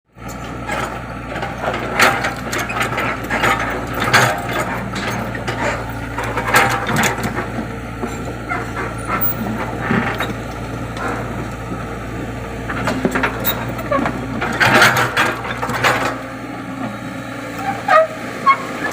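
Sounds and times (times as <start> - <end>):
excavator engine humming: 0.1 - 18.9
metallic clanks and squeaks: 0.2 - 11.4, 12.7 - 16.2, 17.5 - 18.9.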